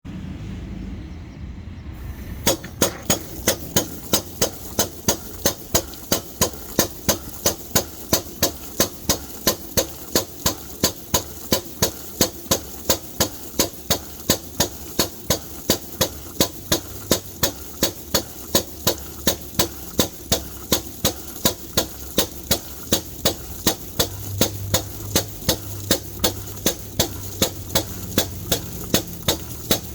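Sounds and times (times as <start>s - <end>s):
engine hum: 0.0s - 29.9s
loud engine knocks: 2.4s - 29.9s.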